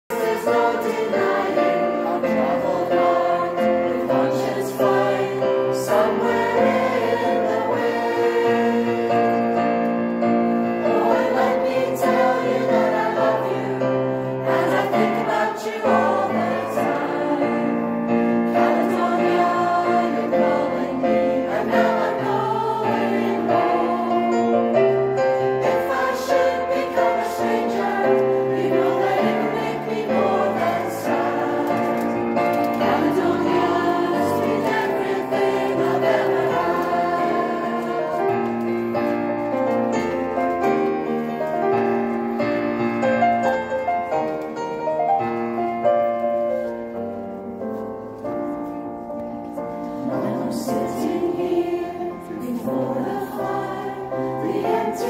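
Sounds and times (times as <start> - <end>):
mixed choir singing: 0.1 - 44.1, 49.7 - 55.0.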